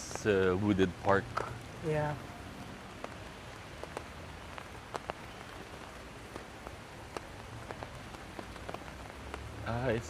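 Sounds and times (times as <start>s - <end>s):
raindrops tapping sharply: 0.0s - 1.8s, 2.6s - 10.0s
steady rain hiss: 0.0s - 10.0s.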